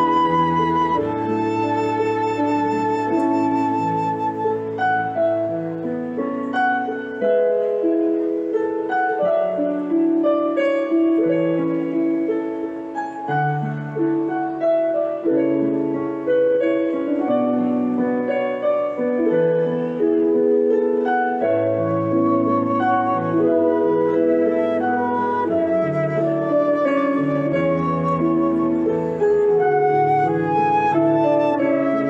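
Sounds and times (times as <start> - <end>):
plucked harp-like accompaniment: 0.0 - 32.0.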